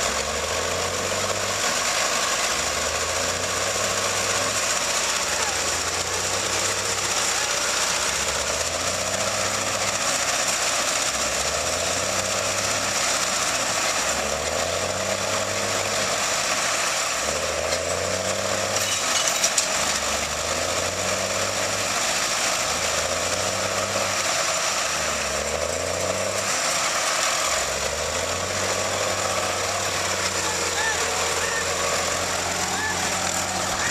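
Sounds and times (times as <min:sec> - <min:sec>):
tractor engine under heavy load: 0:00.0 - 0:33.9.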